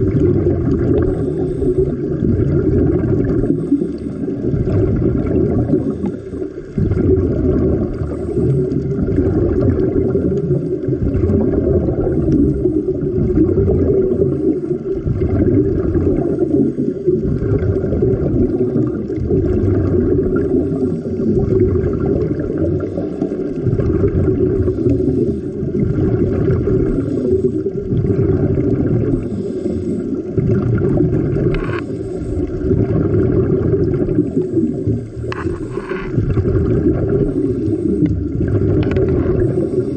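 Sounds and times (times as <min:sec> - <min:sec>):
underwater rumble and bubbling: 0:00.0 - 0:39.9.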